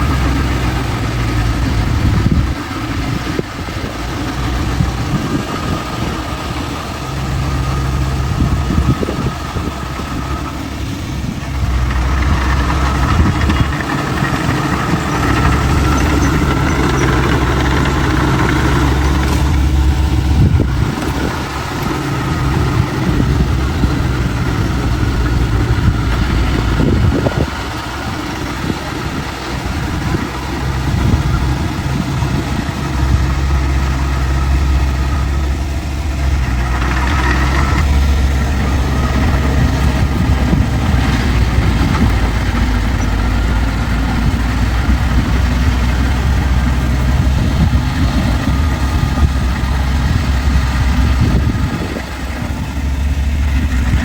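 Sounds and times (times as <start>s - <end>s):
diesel earthmoving machine running: 0.0s - 54.0s.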